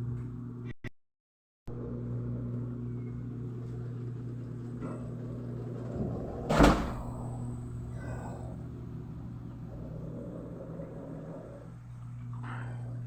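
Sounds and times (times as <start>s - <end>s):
washing machine motor hum: 1.7s - 13.0s.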